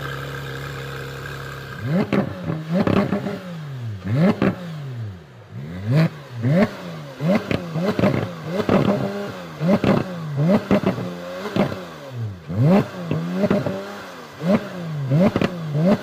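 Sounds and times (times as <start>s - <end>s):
sports car engine revving: 0.0s - 16.0s.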